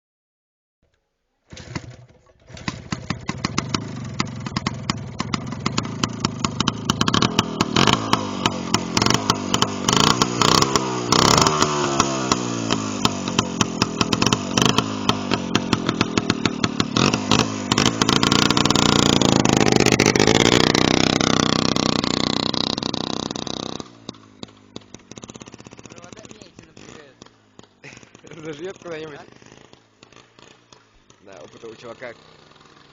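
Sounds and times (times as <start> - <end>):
engine crackles: 1.5 - 32.9
motorcycle engine revving: 1.5 - 32.9.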